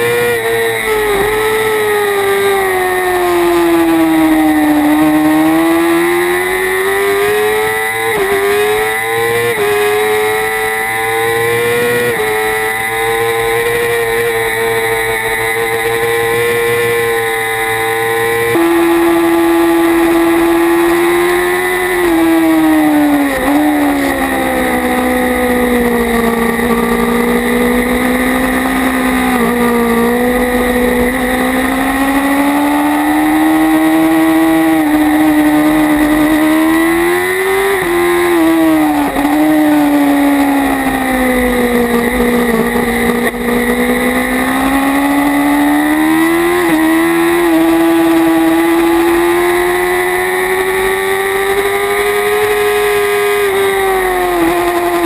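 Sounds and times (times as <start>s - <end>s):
motorcycle engine racing: 0.0s - 55.0s.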